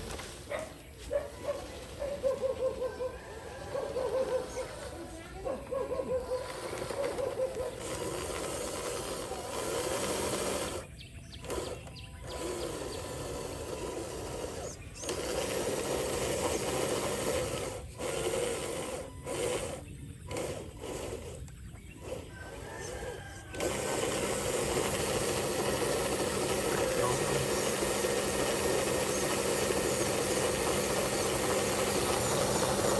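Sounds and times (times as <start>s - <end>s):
toy truck motor whirring: 0.0s - 32.9s.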